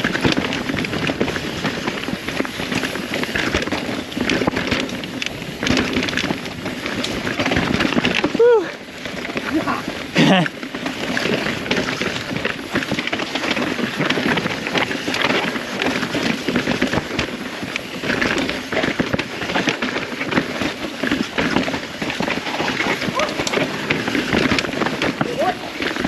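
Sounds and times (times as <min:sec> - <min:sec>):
bike knocking and rattling: 0:00.0 - 0:26.0
bike tyres rolling over rocks: 0:00.0 - 0:26.0.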